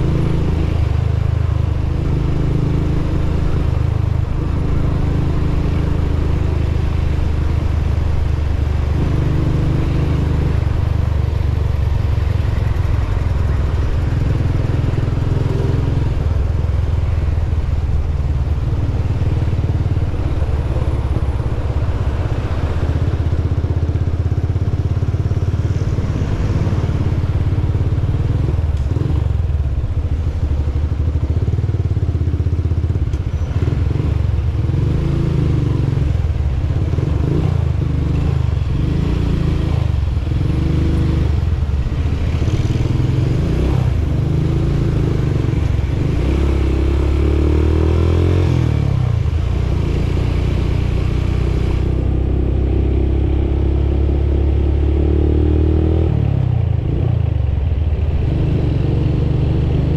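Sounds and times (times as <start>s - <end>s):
motorcycle engine: 0.0s - 59.9s
road and wind noise: 0.0s - 59.9s.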